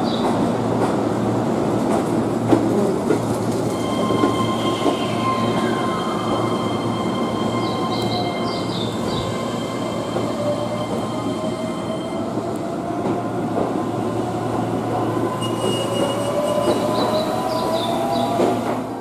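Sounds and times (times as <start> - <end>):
train rail running noise: 0.0 - 19.0.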